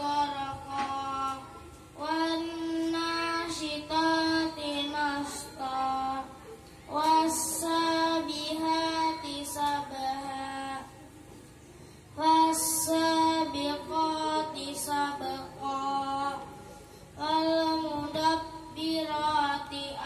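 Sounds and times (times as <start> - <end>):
boy singing into a microphone: 0.0 - 11.1, 12.2 - 20.0.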